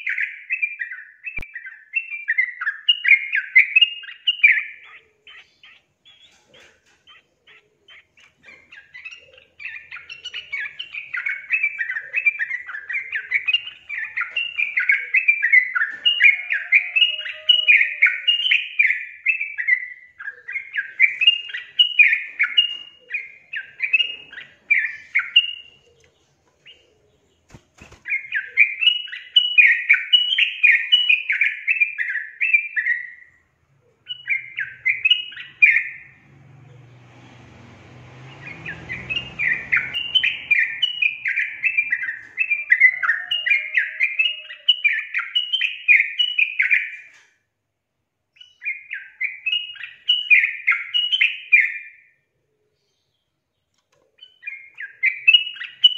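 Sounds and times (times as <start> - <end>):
bird singing chirped notes: 0.0 - 47.2, 54.2 - 55.9.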